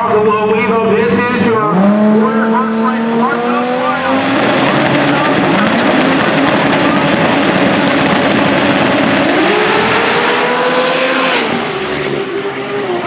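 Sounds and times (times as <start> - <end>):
drag race cars accelerating: 0.0 - 13.0.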